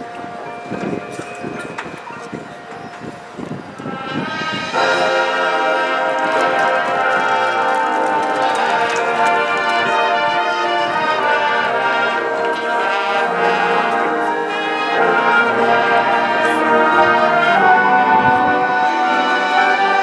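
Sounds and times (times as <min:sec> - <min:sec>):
brass sustained chords: 0:03.5 - 0:20.0
marching band playing: 0:03.8 - 0:20.0.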